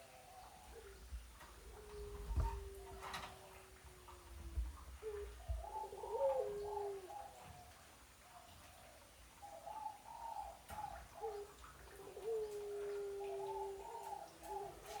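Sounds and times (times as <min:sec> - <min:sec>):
dove cooing: 0:00.0 - 0:07.8, 0:09.4 - 0:15.0.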